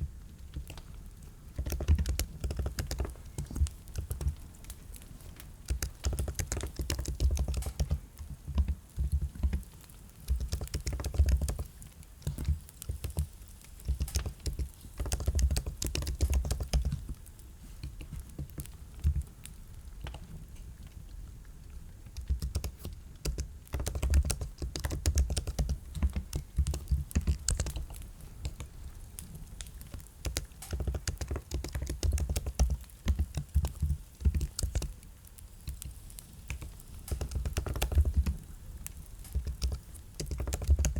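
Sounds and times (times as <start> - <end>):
typing on computer keyboard: 1.5 - 19.3, 22.2 - 35.0, 35.6 - 38.5, 39.2 - 40.9.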